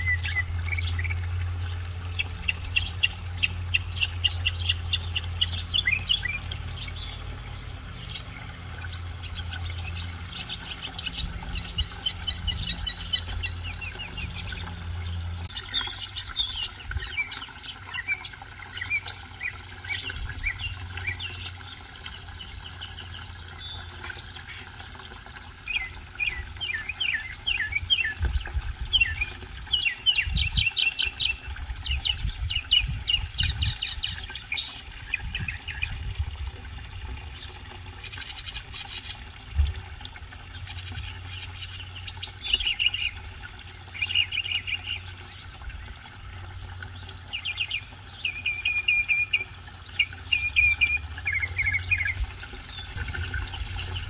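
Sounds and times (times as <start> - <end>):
mockingbird singing: 0.0 - 24.6, 25.7 - 36.0, 40.8 - 45.2, 47.3 - 54.0.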